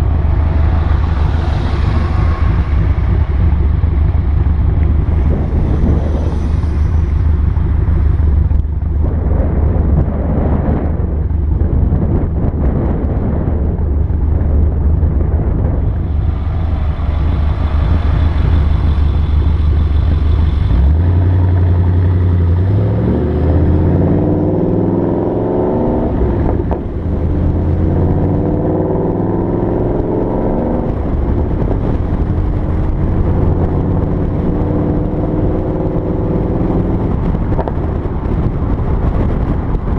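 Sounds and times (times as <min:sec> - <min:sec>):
car exhaust note: 0:00.0 - 0:39.9.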